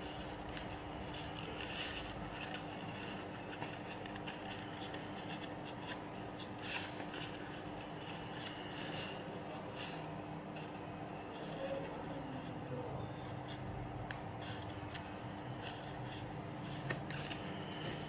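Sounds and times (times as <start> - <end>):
paper being folded and creased: 0.0 - 12.2, 14.3 - 18.0
faint steady hum: 0.0 - 18.0.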